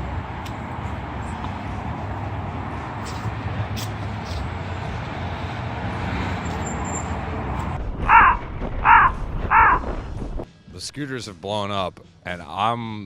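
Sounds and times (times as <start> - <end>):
rumble of passing vehicles: 0.0 - 10.6.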